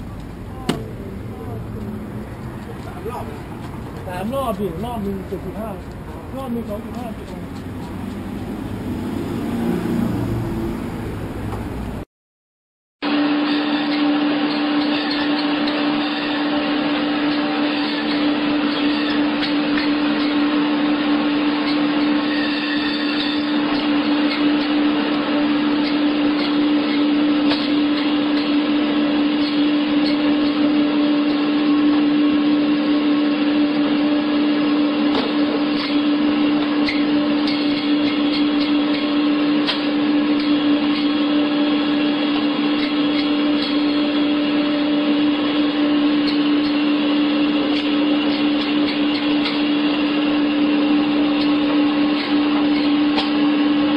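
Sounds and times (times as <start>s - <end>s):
band saw motor hum: 0.0s - 12.0s, 13.1s - 53.9s.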